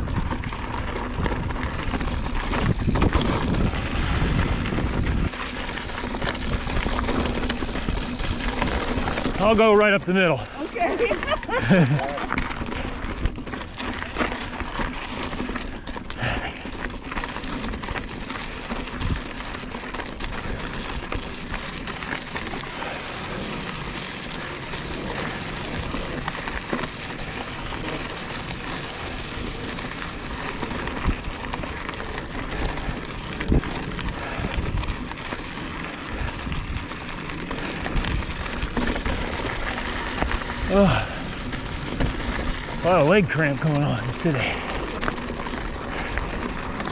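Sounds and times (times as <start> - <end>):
bike knocking over rocks: 0.0 - 46.9
bike tyres rolling over rocky dirt: 0.0 - 46.9.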